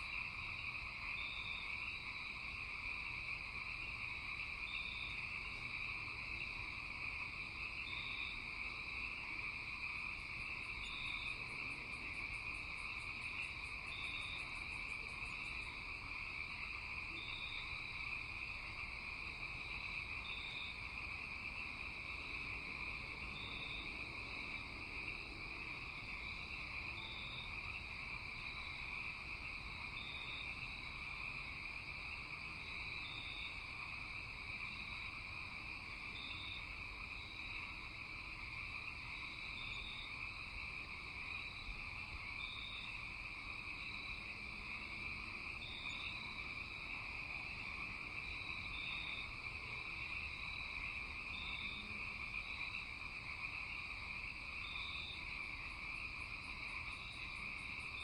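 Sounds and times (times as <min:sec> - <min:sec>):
crickets and insects droning: 0:00.0 - 0:58.0.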